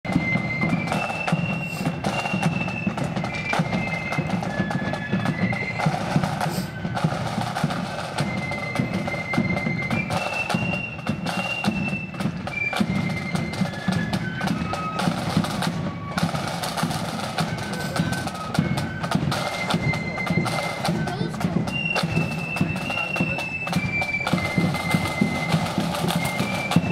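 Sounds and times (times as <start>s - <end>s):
high flute melody: 0.1s - 26.9s
side drums marching rhythm: 0.1s - 26.9s.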